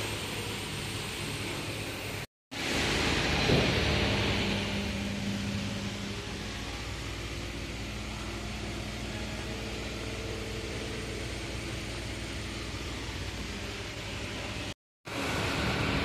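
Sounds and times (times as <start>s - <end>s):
machine hum with hiss: 0.0s - 16.0s.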